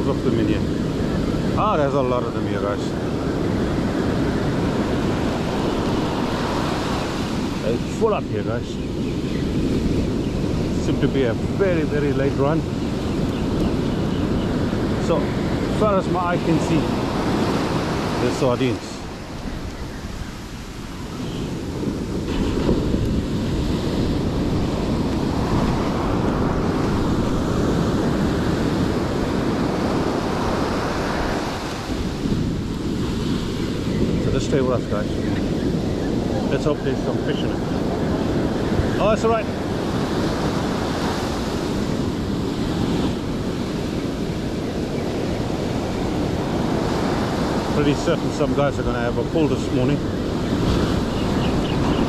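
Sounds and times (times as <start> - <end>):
ocean surf washing on beach: 0.0 - 52.0
wind buffeting microphone: 0.0 - 52.0.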